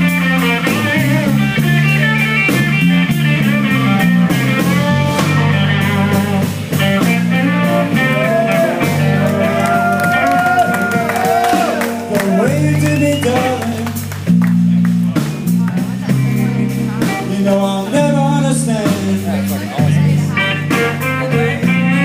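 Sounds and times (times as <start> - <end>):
bass notes: 0.0 - 22.0
blues band playing: 0.0 - 22.0
drum kit: 0.0 - 22.0
electric guitar lead with bent notes: 0.0 - 22.0.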